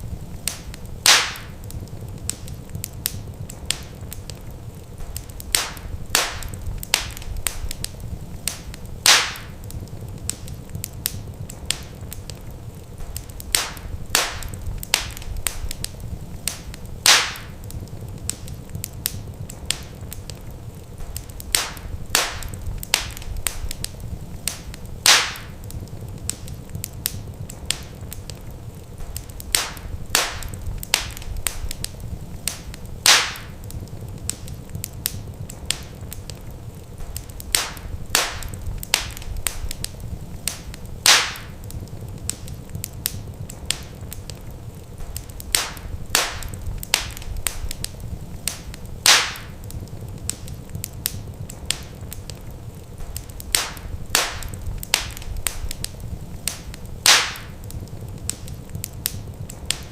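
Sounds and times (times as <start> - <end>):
low fire rumble: 0.0 - 59.9
wood fire crackling: 0.0 - 59.9
logs popping: 0.2 - 59.9.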